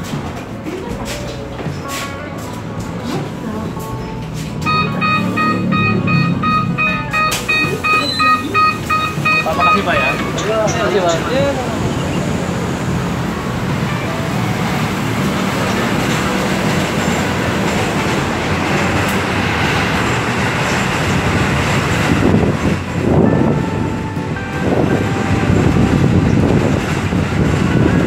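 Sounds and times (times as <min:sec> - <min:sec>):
electric bus rumbling and whirring: 0:00.0 - 0:28.0
traffic noise: 0:00.0 - 0:28.0.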